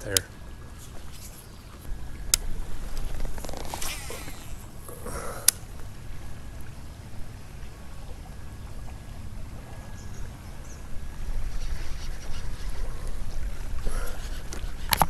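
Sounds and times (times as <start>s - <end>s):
water and wind rumble: 0.0s - 15.0s.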